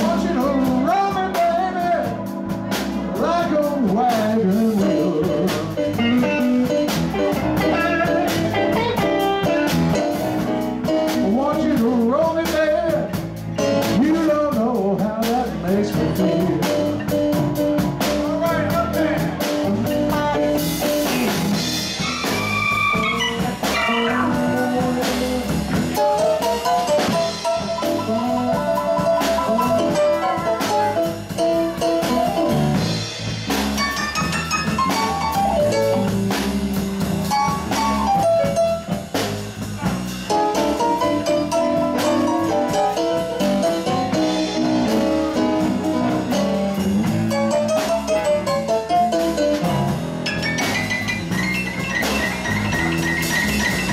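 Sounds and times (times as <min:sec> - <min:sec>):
drum kit beat: 0:00.0 - 0:53.9
electric bass: 0:00.0 - 0:53.9
electric guitar: 0:00.0 - 0:53.9
keyboard: 0:00.0 - 0:53.9
melodic lead line: 0:00.0 - 0:53.9.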